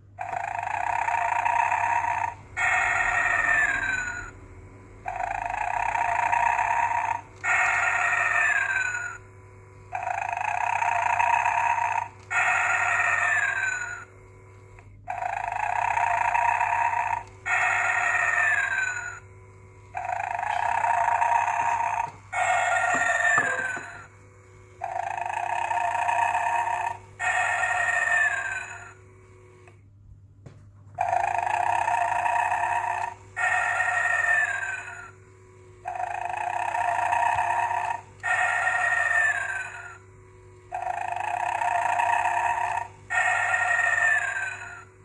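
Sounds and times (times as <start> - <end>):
toy snoring: 0.0 - 29.8, 31.0 - 45.0.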